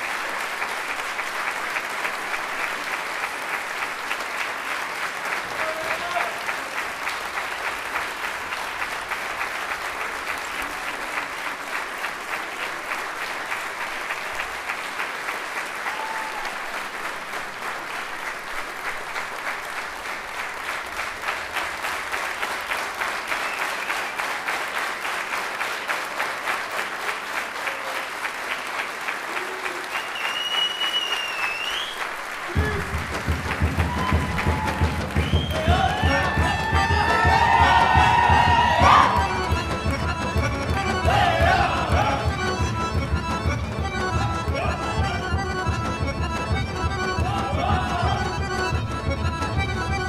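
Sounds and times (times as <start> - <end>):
audience applauding in rhythm: 0.0 - 50.0.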